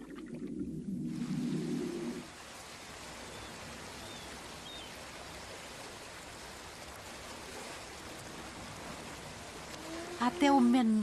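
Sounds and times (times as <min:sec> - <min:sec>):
lake water wash: 0:00.0 - 0:11.0.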